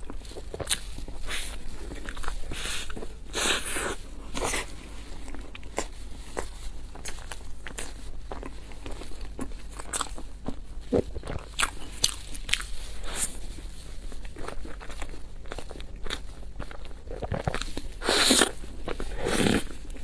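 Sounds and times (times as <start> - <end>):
chewing bread: 0.0 - 20.0.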